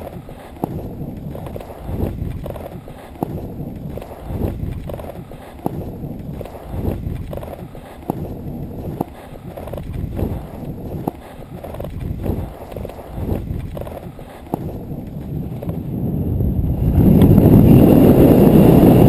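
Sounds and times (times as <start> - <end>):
skis chattering knocks: 0.0 - 15.8
skis scraping over snow: 0.0 - 19.0
wind buffeting microphone: 0.0 - 19.0.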